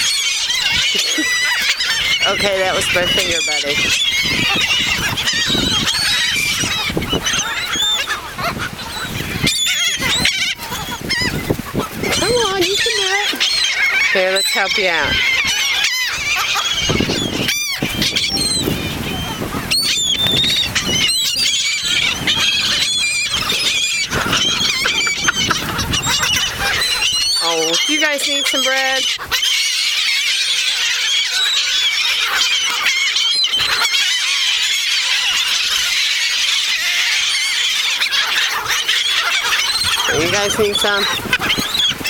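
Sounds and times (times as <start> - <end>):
gulls calling: 0.0 - 42.0.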